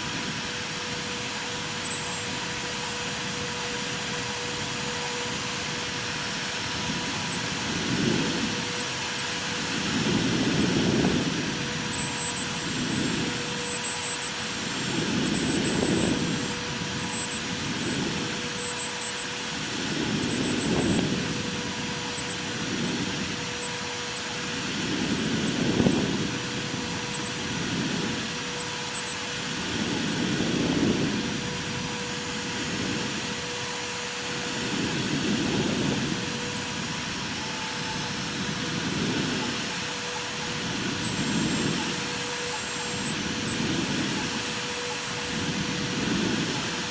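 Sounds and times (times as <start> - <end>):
cnc router spindle whine: 0.0 - 46.9
router cutting wood: 0.0 - 46.9.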